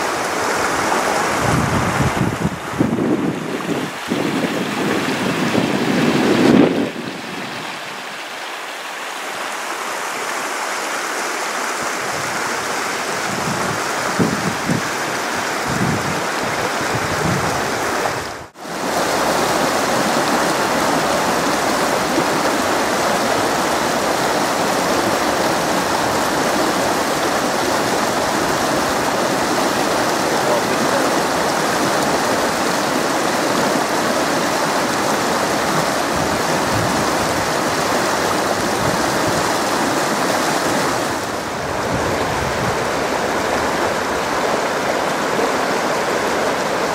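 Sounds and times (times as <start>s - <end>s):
wind buffeting microphone: 0.0s - 8.0s, 12.0s - 46.9s
river rushing over rapids: 0.0s - 46.9s.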